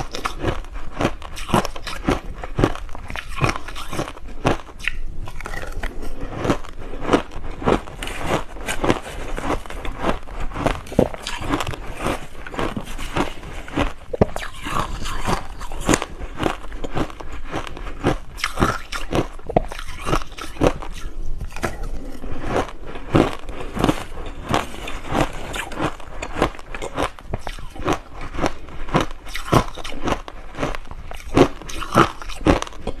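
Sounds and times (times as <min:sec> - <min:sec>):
person chewing crushed ice: 0:00.0 - 0:33.0.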